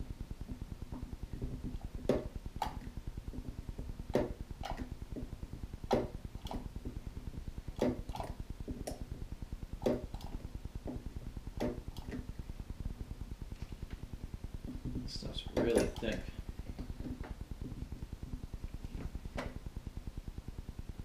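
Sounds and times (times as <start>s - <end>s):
low steady buzz: 0.0s - 21.0s.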